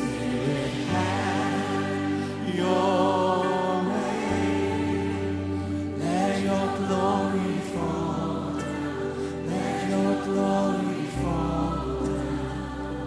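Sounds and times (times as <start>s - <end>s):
voices singing worship song: 0.0s - 13.0s.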